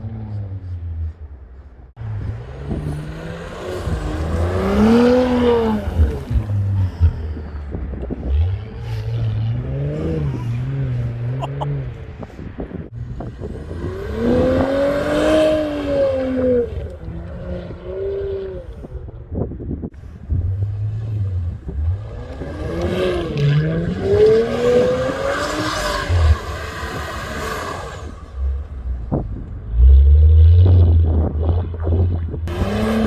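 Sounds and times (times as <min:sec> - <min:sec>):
car engine revving: 0:00.0 - 0:19.1, 0:20.0 - 0:33.0.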